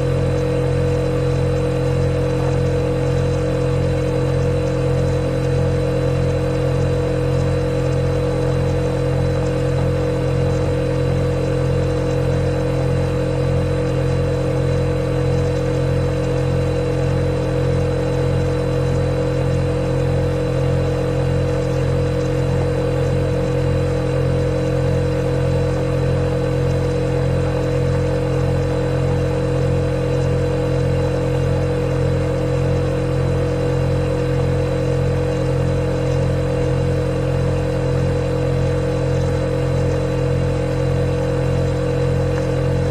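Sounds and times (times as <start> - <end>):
refrigerator hum: 0.0 - 42.9.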